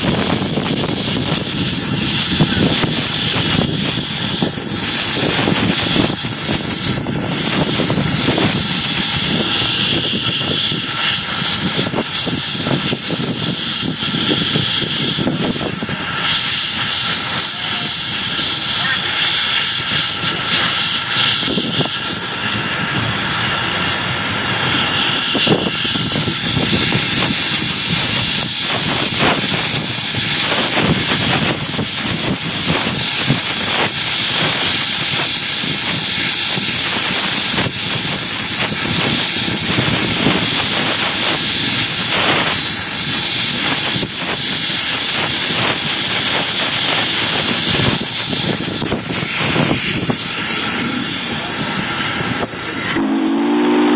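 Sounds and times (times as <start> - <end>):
steam locomotive rush: 0.0 - 53.9
thin high whine: 0.0 - 53.9.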